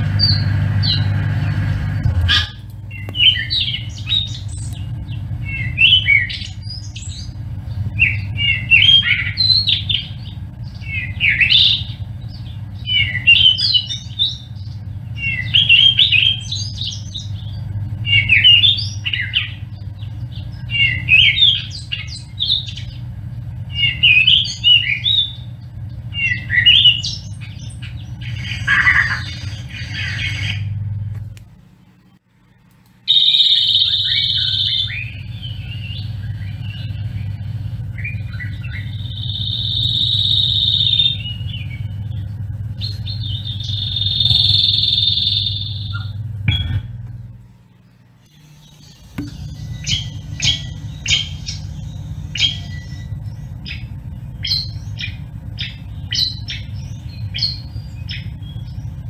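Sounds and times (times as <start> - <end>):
bird singing warbled phrase: 0.0 - 31.0, 33.1 - 59.0
steady low hum: 0.0 - 59.0.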